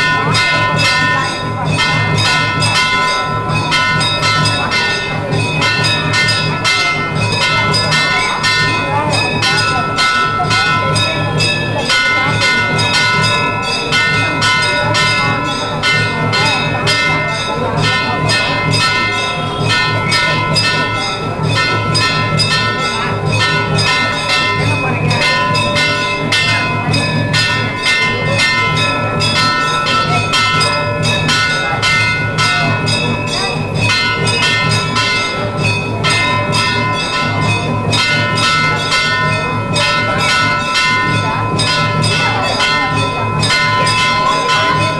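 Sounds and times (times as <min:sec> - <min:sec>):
temple bells ringing: 0:00.0 - 0:44.9.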